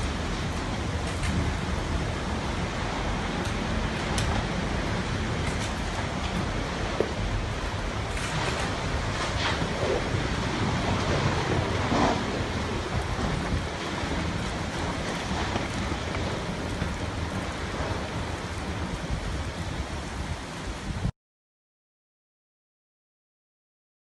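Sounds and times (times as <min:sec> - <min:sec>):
heavy rain: 0:00.0 - 0:21.1
storm wind buffeting microphone: 0:00.0 - 0:21.1.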